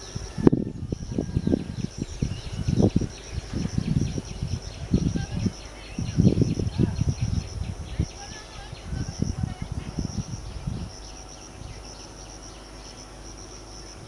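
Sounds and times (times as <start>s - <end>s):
bird chirps: 0.0s - 14.0s
insects buzzing: 0.0s - 14.0s.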